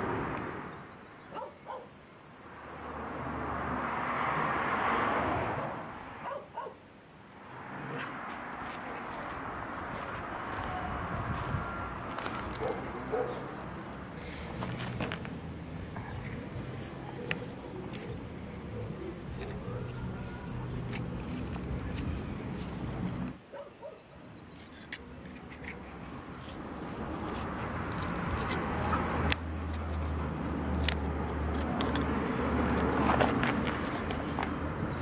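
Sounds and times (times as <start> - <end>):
cricket chirping trill: 0.0 - 35.0.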